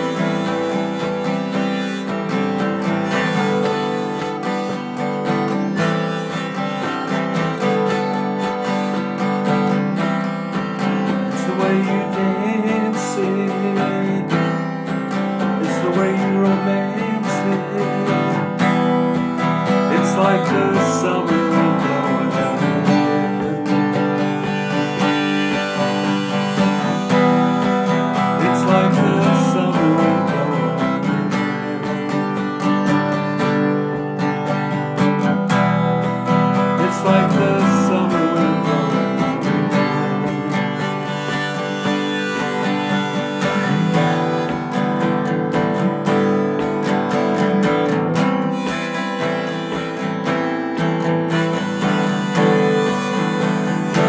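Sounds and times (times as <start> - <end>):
acoustic guitar strumming: 0.0 - 54.0
harmonica playing: 0.0 - 54.0.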